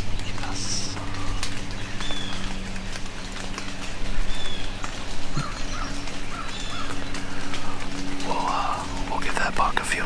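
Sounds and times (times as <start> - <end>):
distant birds chirping: 0.0 - 10.0.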